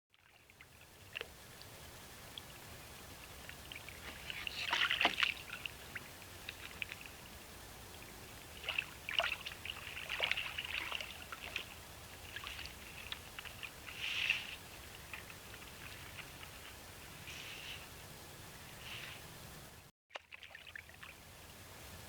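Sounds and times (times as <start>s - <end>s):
water splashing: 0.1s - 17.3s, 20.1s - 21.3s.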